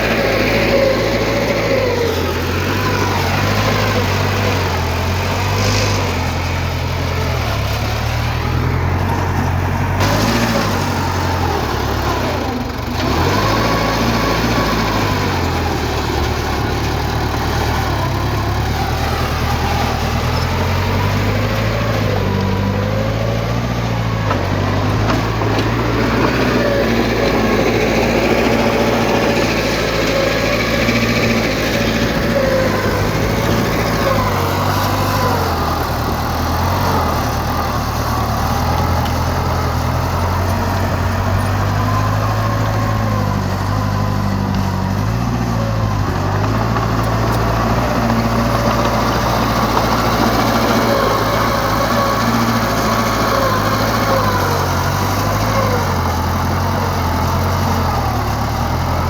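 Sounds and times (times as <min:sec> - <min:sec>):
diesel engine low drone: 0:00.0 - 0:59.0.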